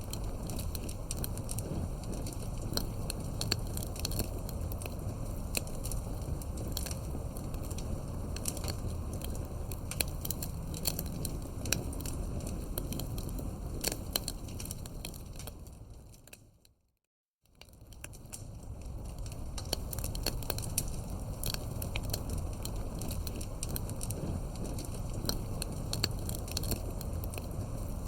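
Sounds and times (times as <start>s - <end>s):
low rush of flames: 0.0s - 16.4s, 17.6s - 28.0s
wood crackling and popping: 0.0s - 16.8s, 17.5s - 28.0s.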